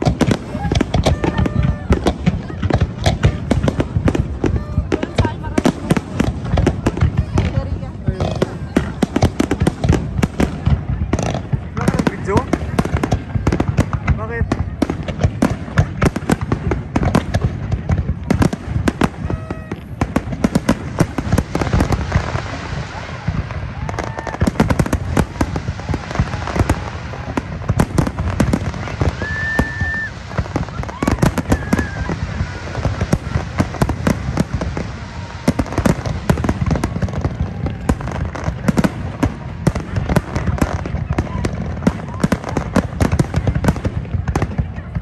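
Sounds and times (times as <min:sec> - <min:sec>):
fireworks bursting: 0:00.0 - 0:45.0.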